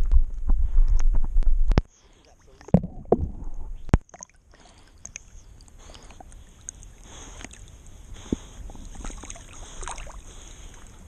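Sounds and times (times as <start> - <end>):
muffled water sloshing: 1.2 - 11.0.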